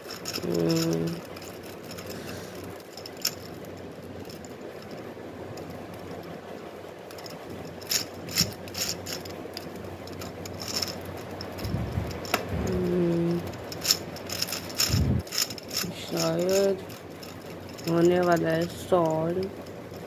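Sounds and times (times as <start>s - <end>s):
plastic gear puzzle clicking: 0.0s - 5.0s, 7.1s - 20.0s
low hum: 0.0s - 20.0s.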